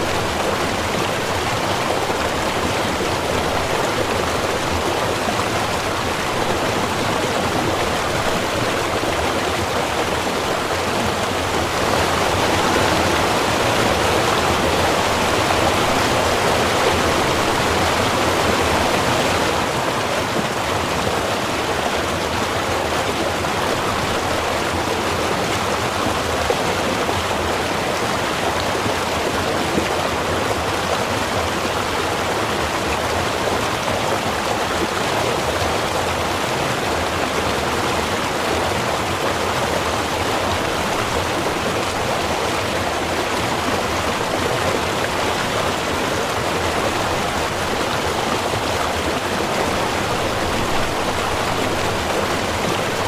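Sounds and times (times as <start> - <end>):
river flowing: 0.0 - 53.0.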